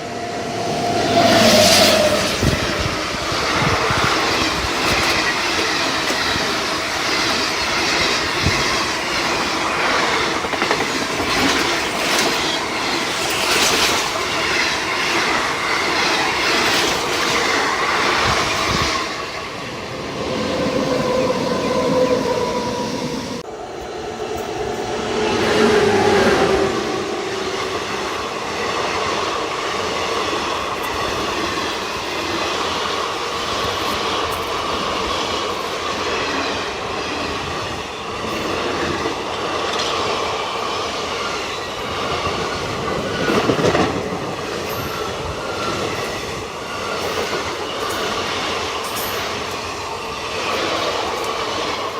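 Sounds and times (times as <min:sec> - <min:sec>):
train wheels clattering on track: 0:01.0 - 0:19.7, 0:27.2 - 0:51.9.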